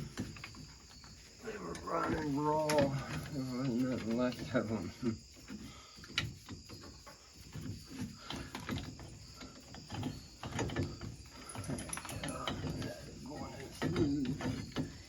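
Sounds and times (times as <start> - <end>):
light metal clicks and scrapes: 0.0 - 15.0.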